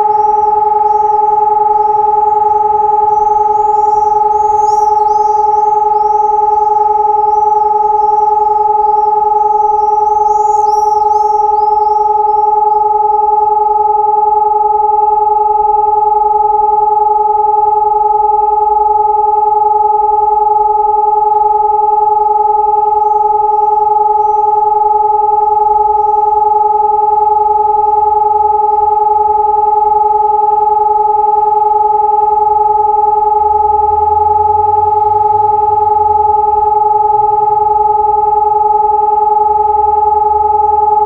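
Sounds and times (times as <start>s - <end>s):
electronic siren steady tone: 0.0s - 41.0s.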